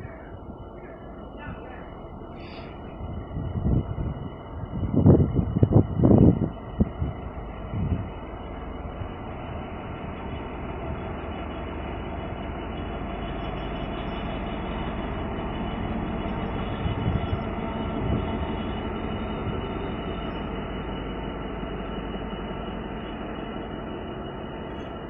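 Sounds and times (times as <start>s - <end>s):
diesel locomotive passing: 0.0s - 25.0s.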